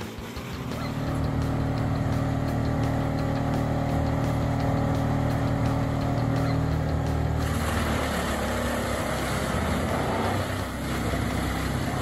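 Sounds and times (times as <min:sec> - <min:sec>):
wood chipper chipping logs: 0:00.0 - 0:12.0
wood chipper engine running: 0:00.0 - 0:12.0.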